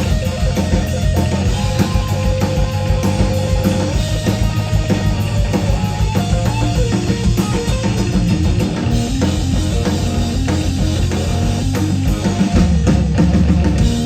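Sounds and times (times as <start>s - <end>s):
bass: 0.0s - 14.0s
drum kit: 0.0s - 14.0s
electric guitar: 0.0s - 14.0s.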